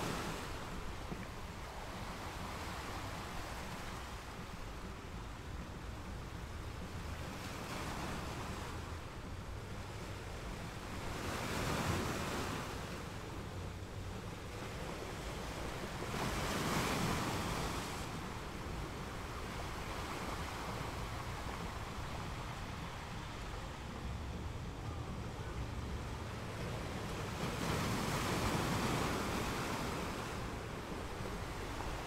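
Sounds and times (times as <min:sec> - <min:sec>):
ocean surf washing onto shore: 0:00.0 - 0:32.0.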